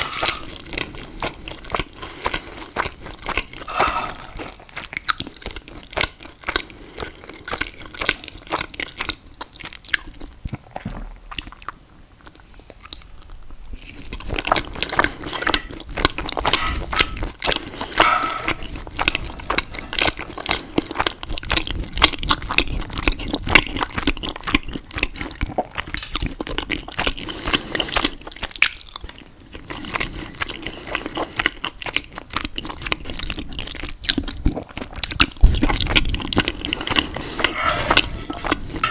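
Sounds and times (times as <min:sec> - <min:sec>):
wet chewing of pasta: 0:00.0 - 0:03.8, 0:04.4 - 0:38.9.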